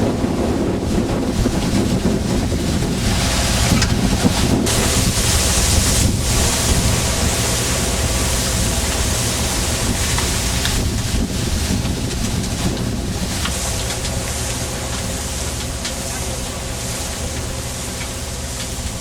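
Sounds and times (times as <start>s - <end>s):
boat engine humming: 0.0s - 19.0s
sea wash: 0.0s - 19.0s
wind buffeting microphone: 0.0s - 19.0s.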